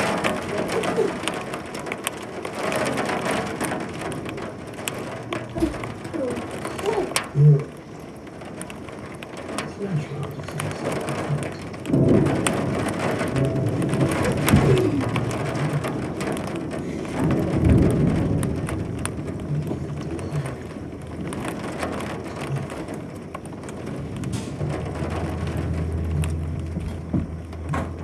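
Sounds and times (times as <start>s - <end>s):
rain falling: 0.0s - 28.0s
low rumbling: 3.9s - 9.1s, 10.3s - 28.0s.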